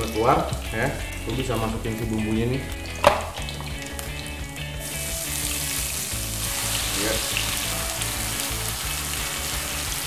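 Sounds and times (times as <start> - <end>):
spice paste sizzling in oil: 0.0 - 10.0.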